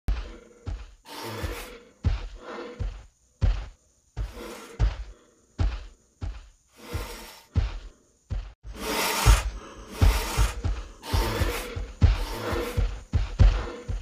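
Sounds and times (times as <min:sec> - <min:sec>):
low thuds: 0:00.1 - 0:14.0.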